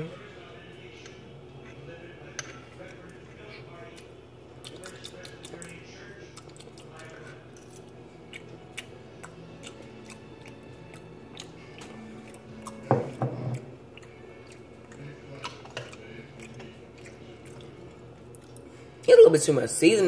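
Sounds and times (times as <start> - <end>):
person chewing food: 1.0 - 19.1.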